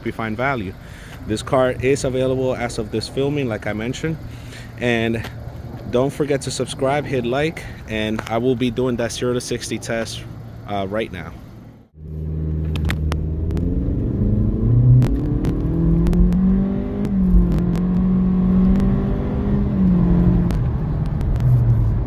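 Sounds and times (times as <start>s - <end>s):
road noise: 0.0s - 22.0s
car engine accelerating: 0.2s - 22.0s.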